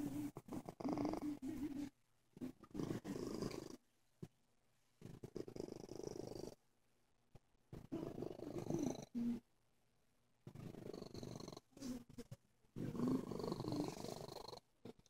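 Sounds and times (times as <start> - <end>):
cat purring: 0.0 - 4.3, 5.0 - 6.6, 7.7 - 9.5, 10.4 - 15.0.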